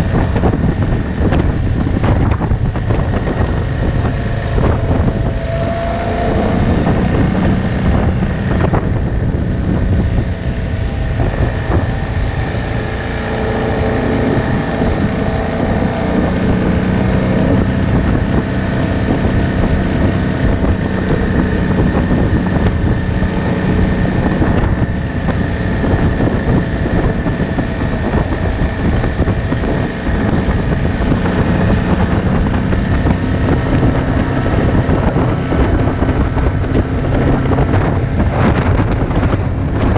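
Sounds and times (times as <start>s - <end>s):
atv engine running: 0.0s - 39.9s
wind noise on microphone: 0.0s - 39.9s.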